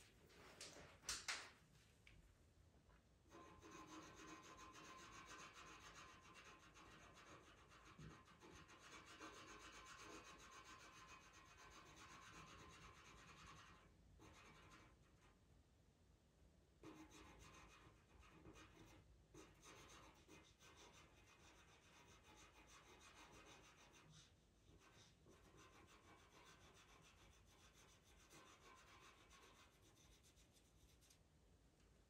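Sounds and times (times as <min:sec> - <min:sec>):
pencil scratching on paper: 0:03.3 - 0:15.4, 0:16.8 - 0:31.2.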